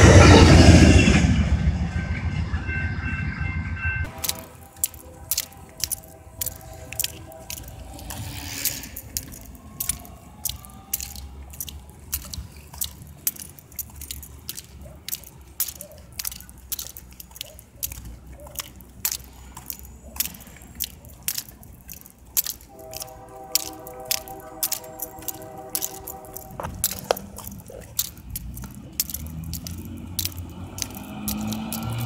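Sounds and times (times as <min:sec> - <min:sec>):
sharp clicks and crackles: 0:04.1 - 0:32.0.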